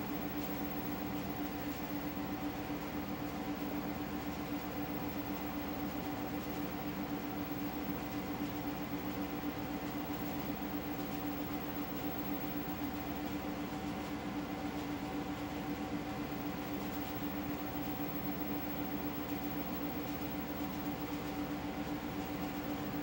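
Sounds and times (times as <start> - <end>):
electrical hum with hiss: 0.0 - 23.0.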